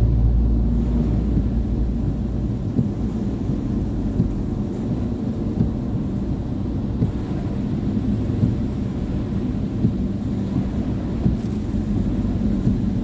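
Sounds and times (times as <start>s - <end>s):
car engine rumble from inside: 0.0s - 13.0s
tyres on wet road: 0.0s - 13.0s.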